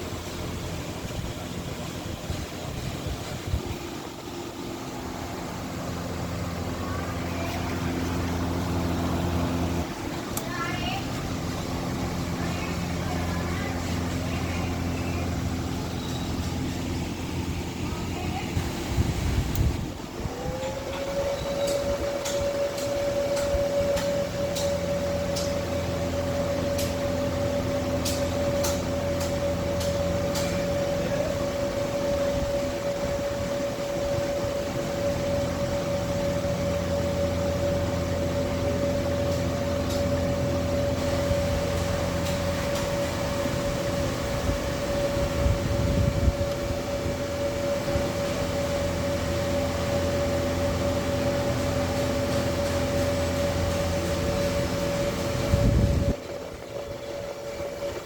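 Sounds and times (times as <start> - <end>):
electrical hum with whine: 0.0 - 58.0.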